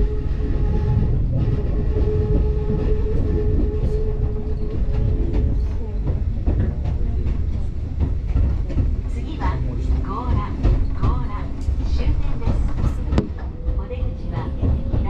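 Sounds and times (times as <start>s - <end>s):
train hum: 0.0s - 15.0s
train wheels rumbling on rail: 0.0s - 15.0s.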